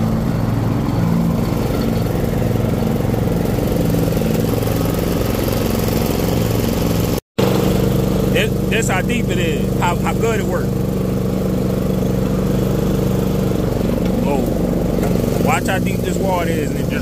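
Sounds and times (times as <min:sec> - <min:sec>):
riding mower engine running: 0:00.0 - 0:17.0.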